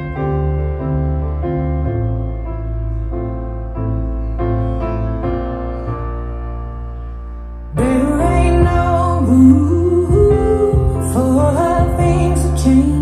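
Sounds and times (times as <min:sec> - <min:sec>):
low bass: 0:00.0 - 0:13.0
slow piano ballad: 0:00.0 - 0:13.0.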